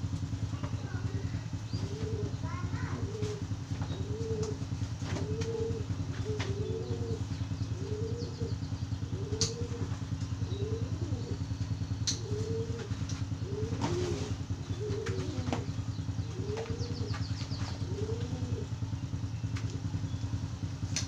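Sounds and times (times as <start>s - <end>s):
small engine idling: 0.0s - 21.0s
doves cooing: 0.1s - 21.0s.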